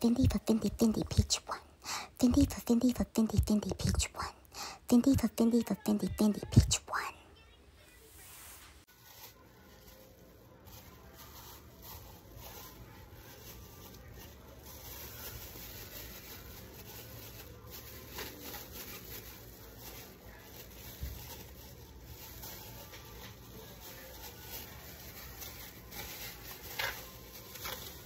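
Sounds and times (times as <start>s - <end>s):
plastic gloves crinkling: 0.0s - 7.2s, 8.2s - 28.0s.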